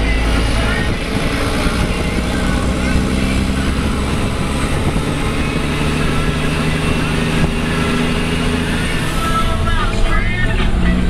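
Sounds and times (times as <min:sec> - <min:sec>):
truck diesel engine braking: 0:00.0 - 0:11.0.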